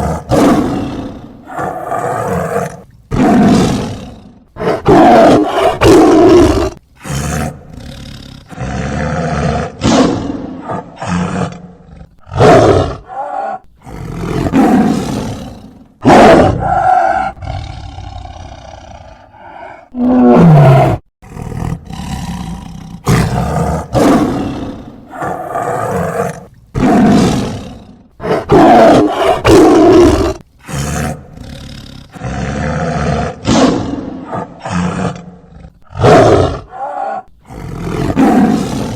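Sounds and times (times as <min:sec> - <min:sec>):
tiger roaring: 0:00.0 - 0:38.9.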